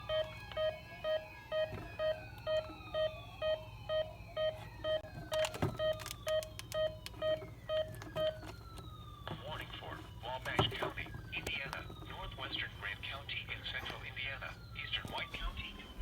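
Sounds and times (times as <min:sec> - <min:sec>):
electronic alarm beeping: 0:00.0 - 0:16.0.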